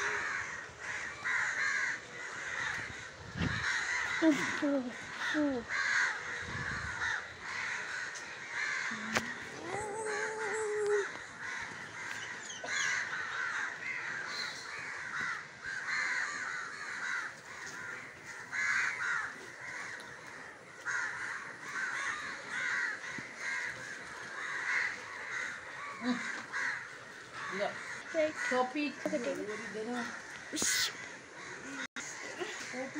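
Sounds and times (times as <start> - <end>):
crows cawing: 0.0 - 32.9.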